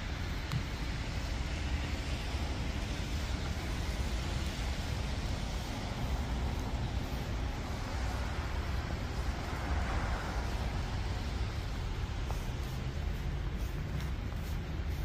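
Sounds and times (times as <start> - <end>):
road traffic rumble and hiss: 0.0 - 15.0.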